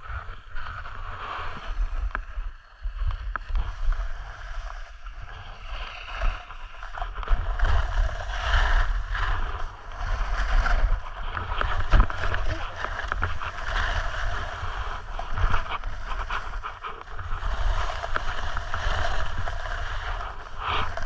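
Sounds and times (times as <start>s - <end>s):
snowboard scraping over snow: 0.0s - 21.0s
wind buffeting microphone: 3.1s - 21.0s.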